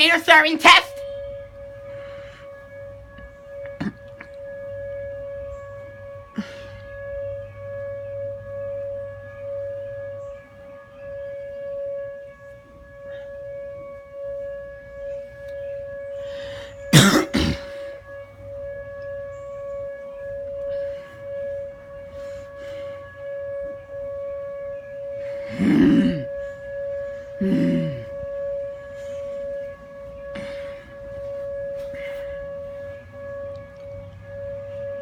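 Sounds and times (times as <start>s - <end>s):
warning siren wailing: 0.0s - 35.0s.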